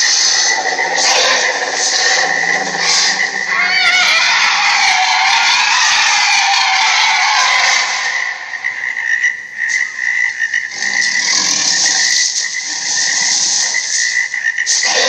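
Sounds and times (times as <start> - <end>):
chorus of rapid pulsing calls: 0.0 - 15.0.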